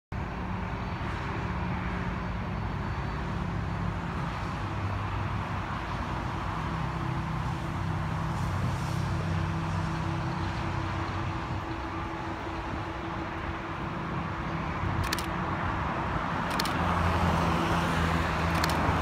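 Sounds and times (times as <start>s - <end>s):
freeway traffic passing: 0.1s - 19.0s.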